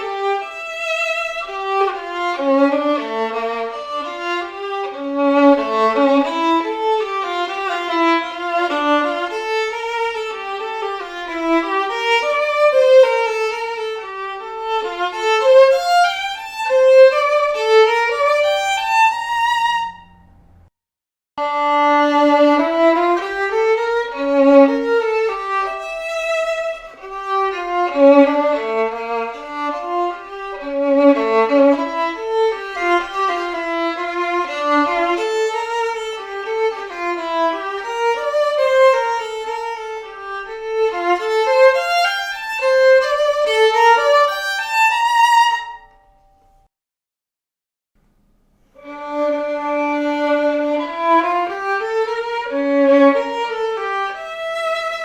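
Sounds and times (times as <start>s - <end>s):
solo violin melody: 0.0s - 20.4s, 21.4s - 46.6s, 48.7s - 55.0s.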